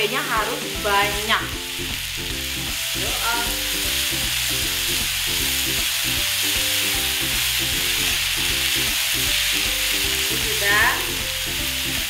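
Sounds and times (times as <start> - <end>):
background music: 0.0 - 12.0
vegetables sizzling in oil: 0.0 - 12.0.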